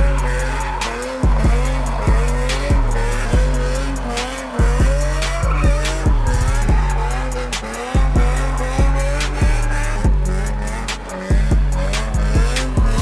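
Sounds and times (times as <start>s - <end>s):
heavy bass line: 0.0s - 13.0s
hi-hat ticks: 0.0s - 13.0s
wavering melody: 0.0s - 13.0s.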